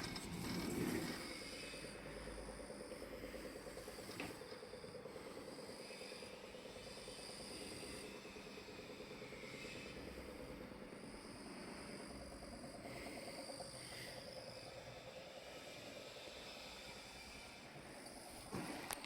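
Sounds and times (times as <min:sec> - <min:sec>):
frogs trilling: 0:00.0 - 0:18.3
insects chirring: 0:00.0 - 0:19.0.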